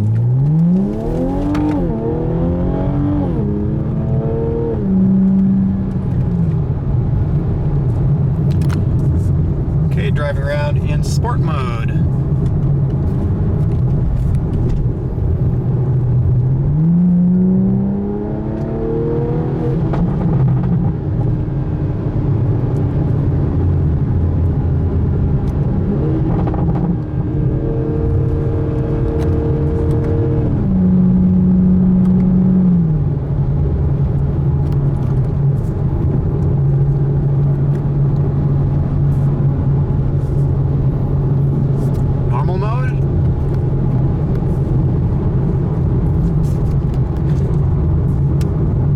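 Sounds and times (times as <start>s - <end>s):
car engine revving while driving: 0.0s - 48.9s.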